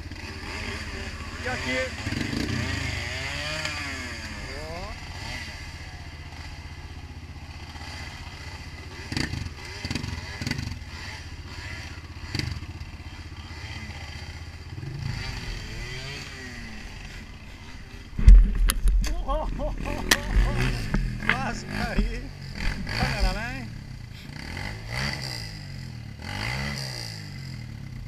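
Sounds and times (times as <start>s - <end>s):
dirt bike engines idling: 0.0s - 28.0s.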